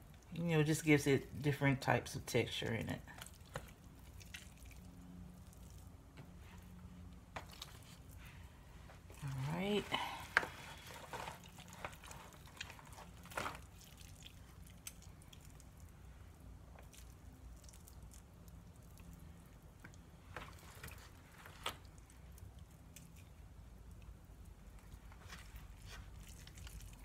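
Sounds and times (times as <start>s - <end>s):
low steady hum: 0.0s - 27.0s
wet squishing and tearing of meat: 3.0s - 8.4s, 9.2s - 27.0s.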